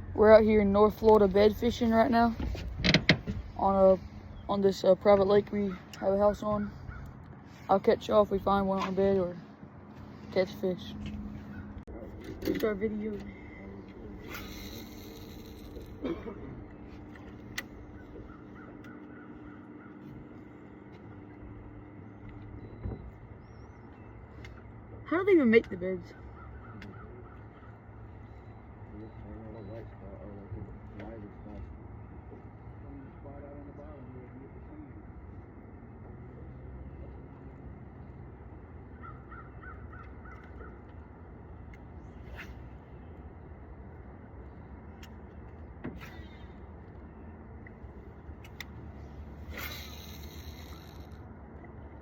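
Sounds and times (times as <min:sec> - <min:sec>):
steady low hum: 0:00.0 - 0:52.0
faint distant bird calls: 0:03.2 - 0:08.6, 0:09.2 - 0:52.0.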